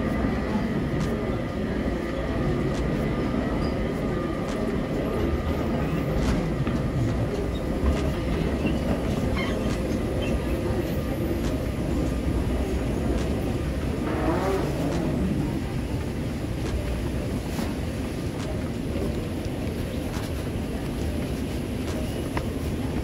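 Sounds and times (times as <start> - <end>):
moving walkway rumble: 0.0 - 23.0
light footsteps: 0.1 - 23.0.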